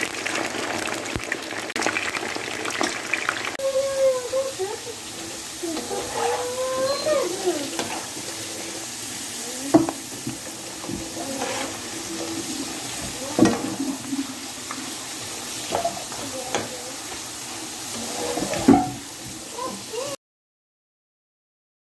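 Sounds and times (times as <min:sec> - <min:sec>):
food frying in hot oil: 0:00.0 - 0:20.2.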